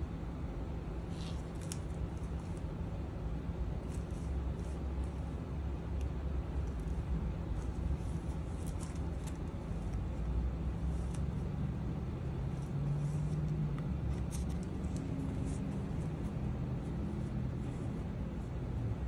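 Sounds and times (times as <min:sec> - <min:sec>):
low rumbling hum: 0:00.0 - 0:19.0.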